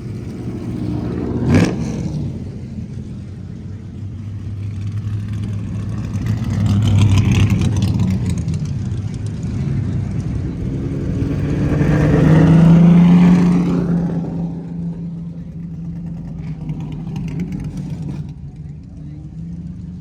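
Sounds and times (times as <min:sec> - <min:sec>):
car revving or driving past: 0:00.0 - 0:18.6
car engines running: 0:00.0 - 0:20.0.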